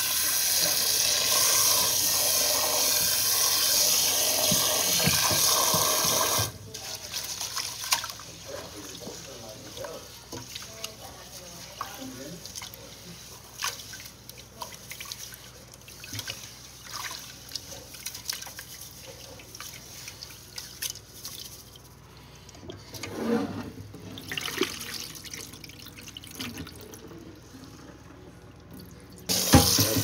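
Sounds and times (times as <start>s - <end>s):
water gushing into sink: 0.0s - 30.0s.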